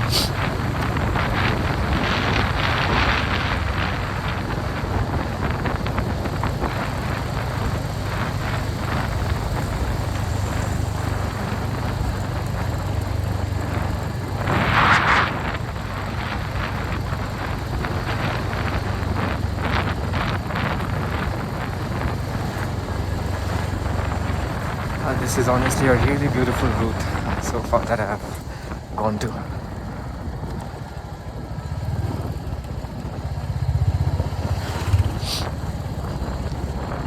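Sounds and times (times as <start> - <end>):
motorcycle engine running: 0.0 - 37.0
wind noise: 0.0 - 37.0.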